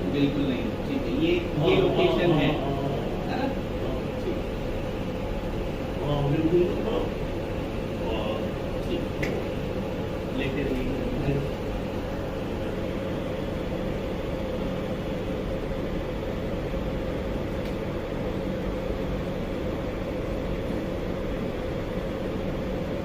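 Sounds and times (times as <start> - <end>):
machine humming and hissing: 0.0 - 23.0.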